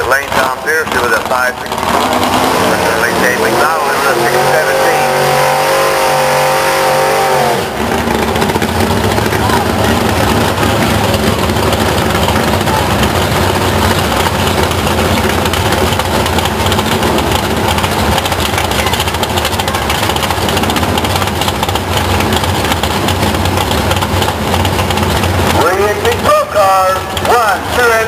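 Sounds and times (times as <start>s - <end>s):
drag race engines idling: 0.0s - 28.0s.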